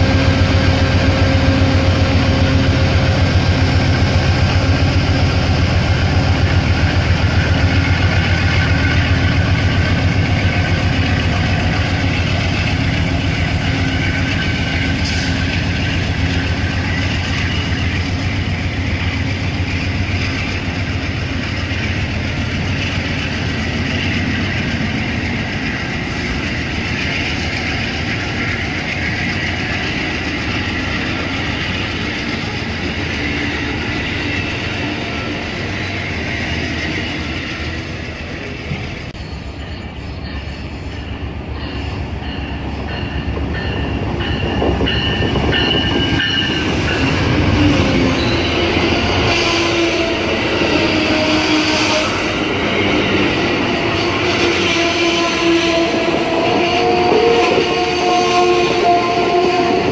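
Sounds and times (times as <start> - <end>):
diesel locomotive engine drone: 0.0 - 59.9
train wheels on rails: 0.0 - 59.9.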